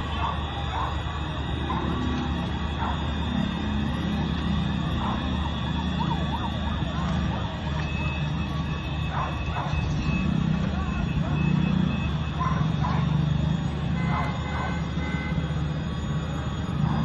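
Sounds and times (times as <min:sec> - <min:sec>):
sirens with yelp sweeps: 0:00.0 - 0:17.0
street noise: 0:00.0 - 0:17.0.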